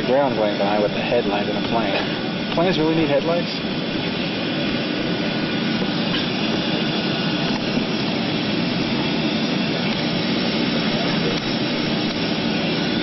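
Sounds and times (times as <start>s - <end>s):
faint steady whine: 0.0s - 13.0s
jet engine cabin noise: 0.0s - 13.0s.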